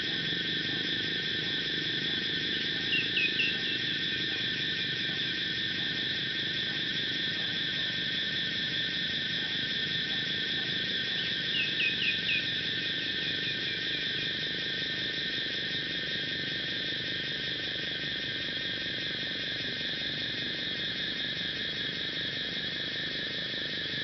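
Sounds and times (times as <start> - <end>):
insects chorus: 0.0 - 24.0.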